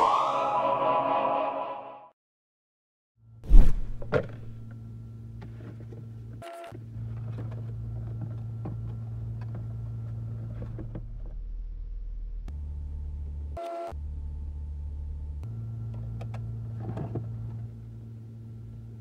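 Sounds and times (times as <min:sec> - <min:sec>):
low electrical hum: 0:03.6 - 0:19.0.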